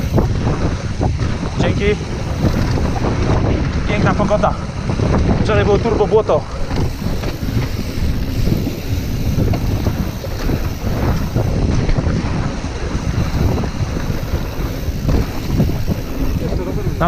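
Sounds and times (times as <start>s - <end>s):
bike knocks and rattles: 0.0s - 17.0s
tyres rolling over dirt trail: 0.0s - 17.0s
wind rushing over microphone: 0.0s - 17.0s.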